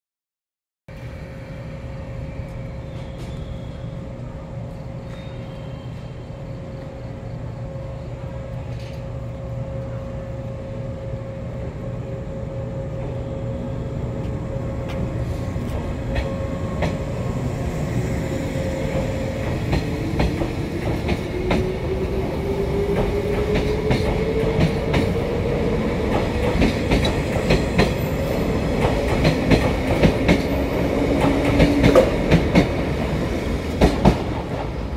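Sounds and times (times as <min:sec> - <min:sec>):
electric train rumbling: 0:00.9 - 0:34.9.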